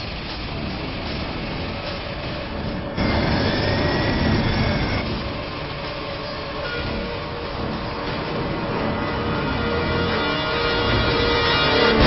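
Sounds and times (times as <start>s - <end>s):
low-flying airplane: 0.0s - 12.0s
road and engine noise in car: 0.0s - 12.0s.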